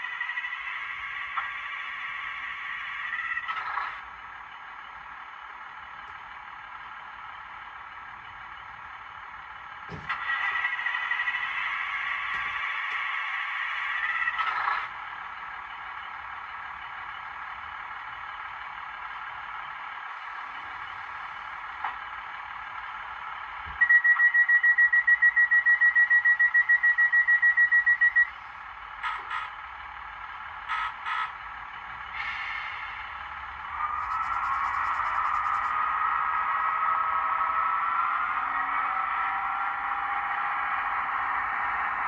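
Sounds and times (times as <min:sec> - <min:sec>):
thin locomotive running sound: 0:00.0 - 0:42.0.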